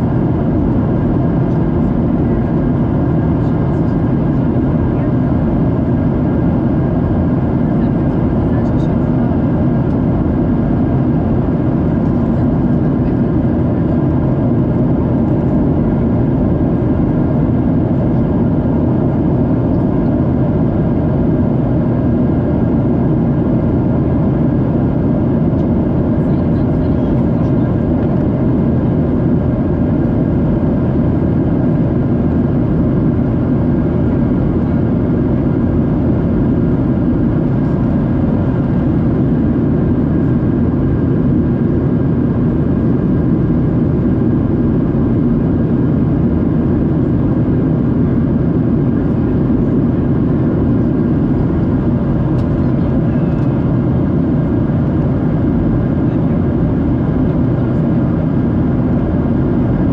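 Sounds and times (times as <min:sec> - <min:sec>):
jet engine drone: 0:00.0 - 0:59.9.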